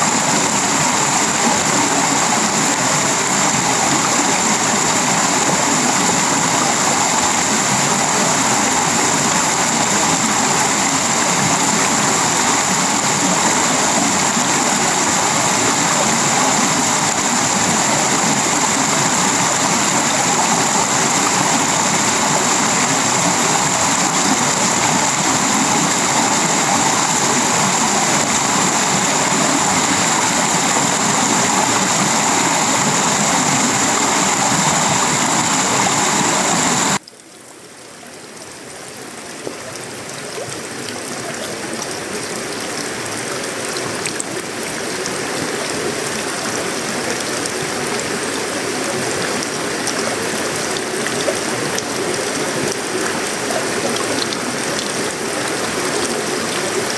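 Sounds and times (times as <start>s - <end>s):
rain on a metal roof: 0.0s - 56.9s.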